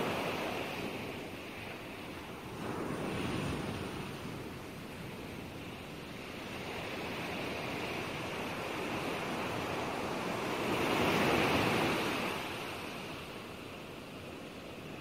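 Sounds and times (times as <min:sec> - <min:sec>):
sea waves washing in: 0:00.0 - 0:15.0.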